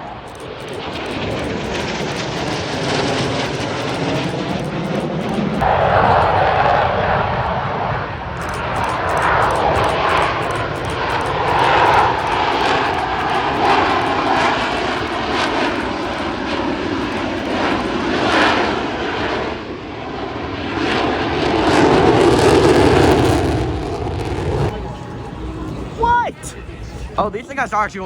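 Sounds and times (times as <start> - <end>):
aircraft engines roaring: 0.0 - 28.0.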